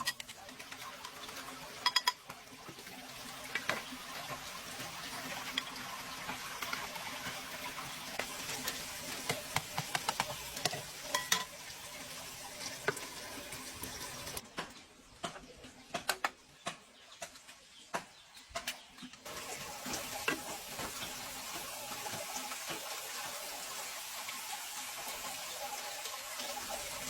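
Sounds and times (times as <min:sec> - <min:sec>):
water running from a tap: 0:00.0 - 0:14.4, 0:19.2 - 0:27.0.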